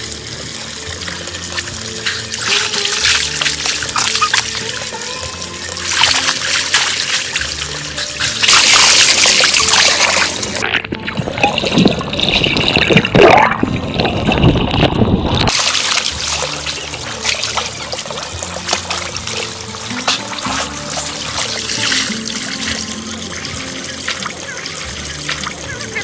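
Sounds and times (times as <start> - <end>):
faint background music: 0.0 - 14.4, 15.5 - 26.0
water trickling and splashing: 0.0 - 26.0.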